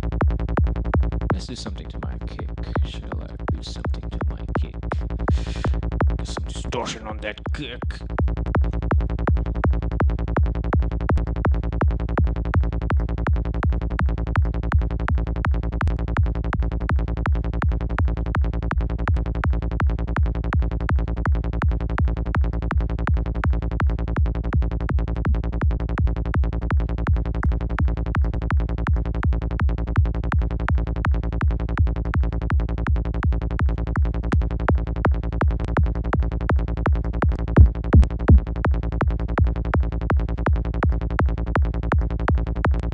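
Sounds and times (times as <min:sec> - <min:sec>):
deep sub-bass: 0:00.0 - 0:42.9
punchy distorted kick drum: 0:00.0 - 0:42.9.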